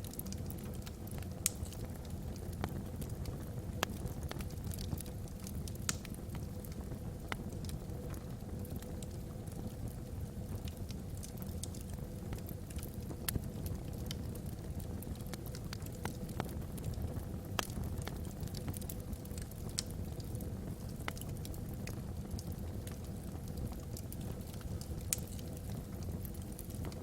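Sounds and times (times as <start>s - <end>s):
burning wood crackling and popping: 0.0s - 27.0s
fire flames rumbling: 0.0s - 27.0s.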